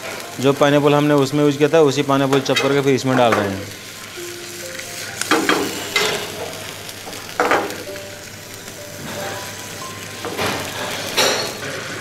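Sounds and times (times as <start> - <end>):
food bubbling and sizzling in pan: 0.0 - 12.0.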